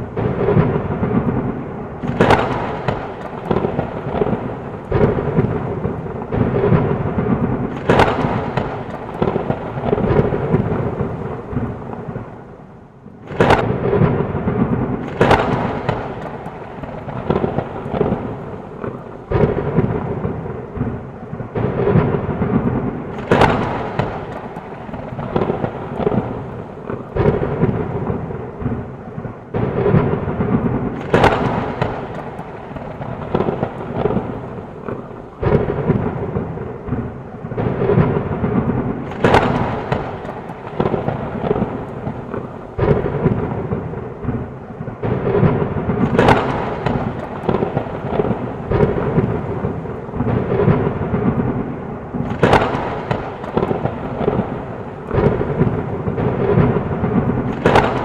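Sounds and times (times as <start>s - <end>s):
heavy rain: 0.0s - 58.0s
sharp thunderclaps: 0.0s - 58.0s
thunder rumbling: 0.0s - 58.0s.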